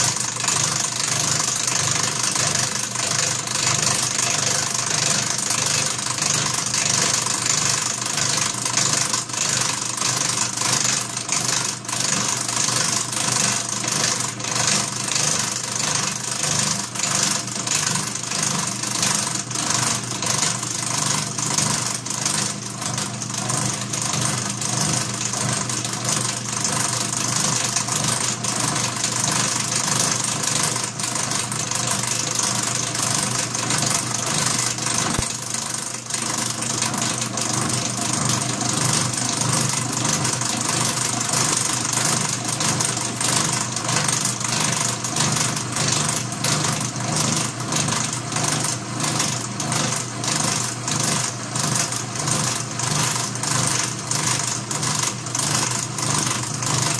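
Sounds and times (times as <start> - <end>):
milling machine gear hum: 0.0 - 56.9.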